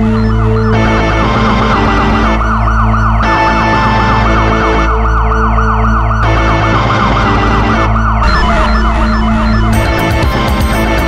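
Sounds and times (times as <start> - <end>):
electronic siren warbling: 0.0 - 11.0
music with steady bass: 0.0 - 11.0.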